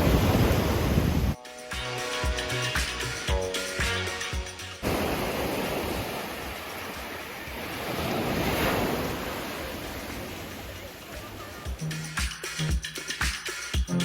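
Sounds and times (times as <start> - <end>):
sea waves washing ashore: 0.0 - 1.4, 2.0 - 13.8.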